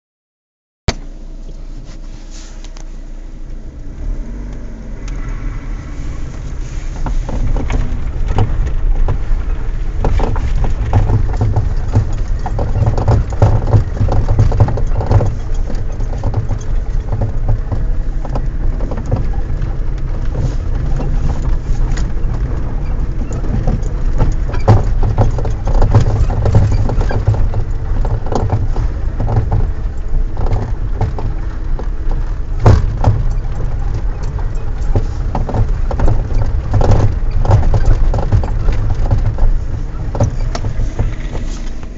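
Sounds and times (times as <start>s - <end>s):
car road rumble: 0.9s - 41.9s
suspension knocks: 5.1s - 41.9s.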